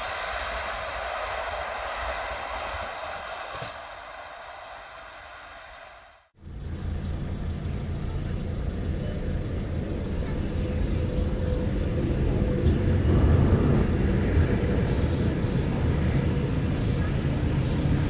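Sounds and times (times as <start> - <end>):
freight train low rumble: 0.0 - 5.6, 6.2 - 18.0.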